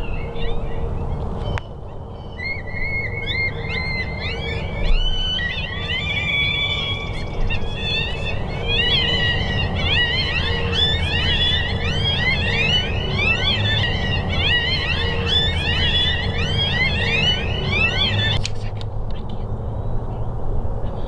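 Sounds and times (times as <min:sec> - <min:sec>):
coyotes yipping and howling: 0:00.0 - 0:18.4
low wind rumble: 0:00.0 - 0:21.0.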